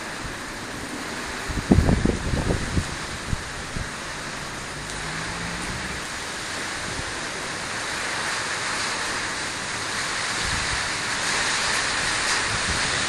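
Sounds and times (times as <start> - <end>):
storm wind rushing through trees: 0.0 - 13.0
wind gusts thumping on microphone: 0.0 - 13.0.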